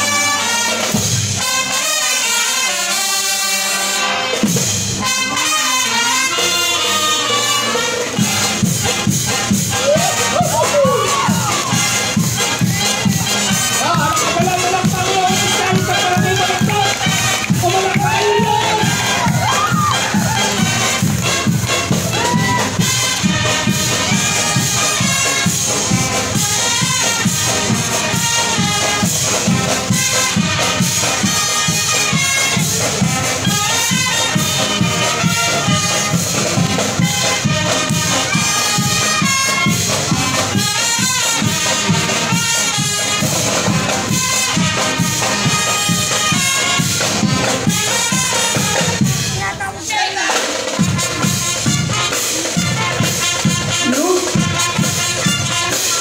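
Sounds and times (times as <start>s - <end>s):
marching band playing: 0.0s - 56.0s
steady percussion beat: 4.3s - 56.0s.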